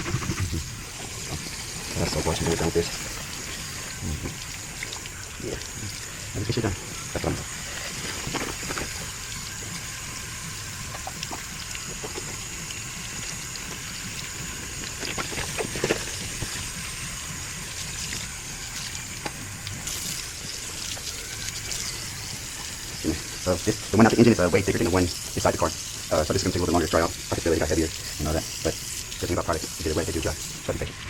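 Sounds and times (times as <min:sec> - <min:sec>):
running water splashing: 0:00.0 - 0:31.0.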